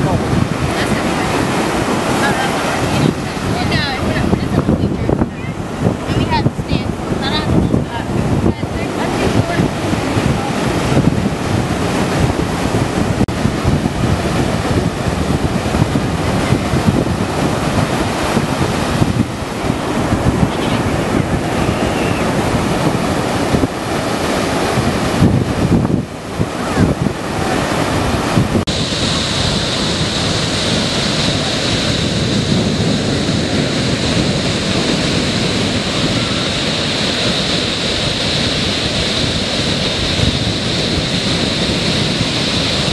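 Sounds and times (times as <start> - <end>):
ocean surf breaking on beach: 0.0 - 42.9
wind buffeting microphone: 0.0 - 42.9.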